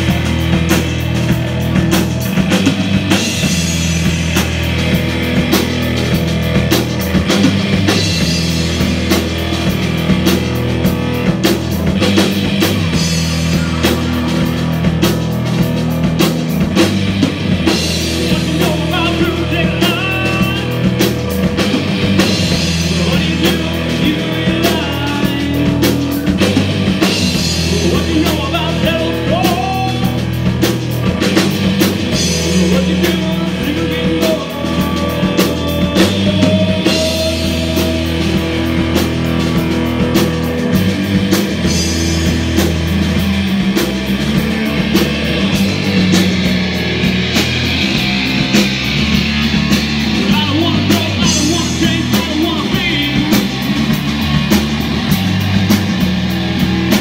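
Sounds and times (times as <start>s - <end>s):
drum kit steady beat: 0.0s - 57.0s
electric guitars: 0.0s - 57.0s.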